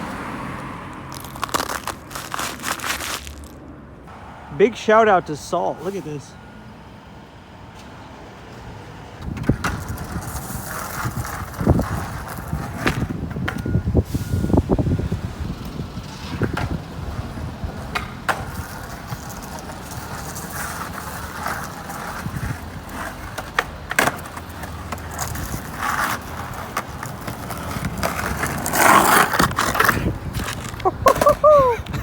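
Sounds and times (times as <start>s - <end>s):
skateboard wheels rolling on pavement: 0.0s - 6.2s, 7.0s - 32.0s.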